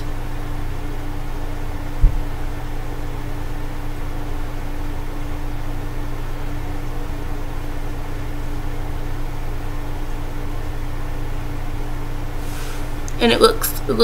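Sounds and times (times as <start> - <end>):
steady machine hum and hiss: 0.0 - 14.0.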